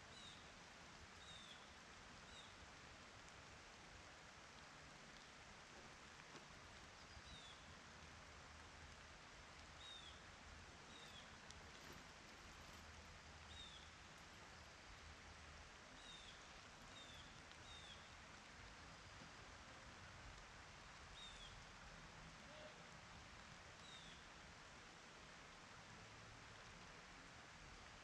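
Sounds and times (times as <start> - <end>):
faint outdoor hiss: 0.0 - 28.0.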